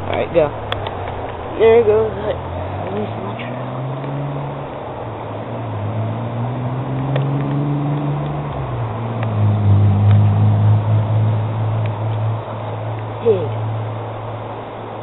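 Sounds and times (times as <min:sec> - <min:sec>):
low engine-like hum: 0:00.0 - 0:15.0
stream rushing: 0:00.0 - 0:15.0.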